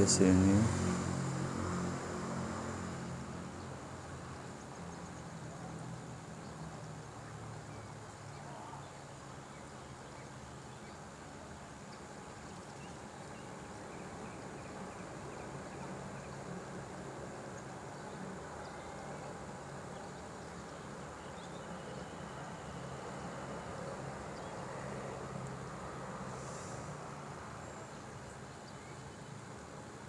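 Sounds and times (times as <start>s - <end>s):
insects: 0.0s - 30.0s.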